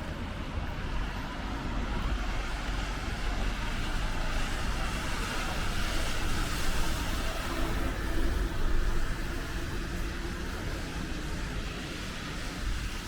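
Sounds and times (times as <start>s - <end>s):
vehicles passing with low rumble: 0.0s - 13.0s.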